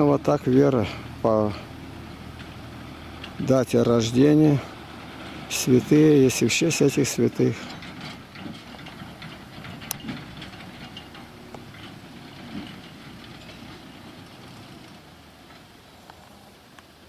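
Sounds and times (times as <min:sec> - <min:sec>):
distant tractor engine rumble: 0:00.0 - 0:17.0.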